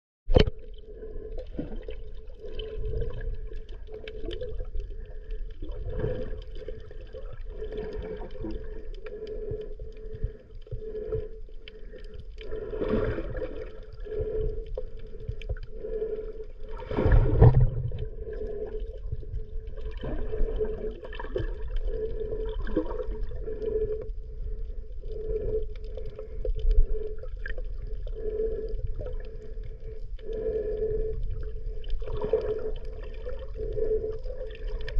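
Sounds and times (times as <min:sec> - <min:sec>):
low underwater rumble: 0:00.3 - 0:34.9
muffled underwater water movement: 0:00.3 - 0:34.9.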